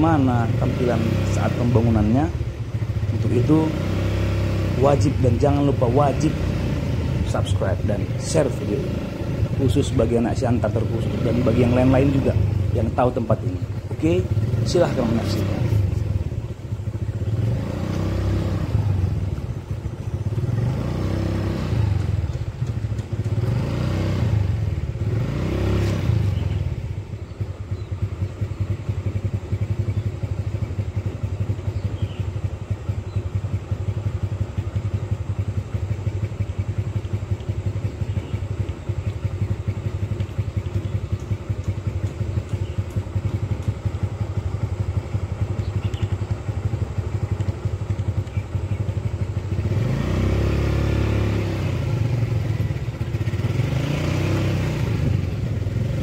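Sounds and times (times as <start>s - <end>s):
low engine rumble: 0.0s - 56.0s
motorcycle engines revving past: 0.0s - 56.0s.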